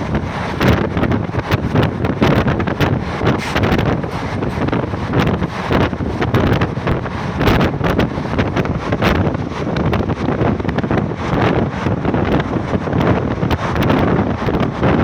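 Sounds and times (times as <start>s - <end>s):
moving train rumble: 0.0s - 15.0s
wind buffeting microphone: 0.0s - 15.0s.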